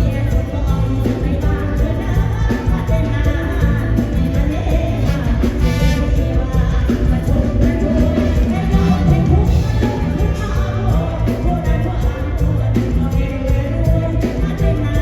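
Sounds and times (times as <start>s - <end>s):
heavy bass: 0.0s - 15.0s
live band music: 0.0s - 15.0s
person singing: 0.0s - 15.0s.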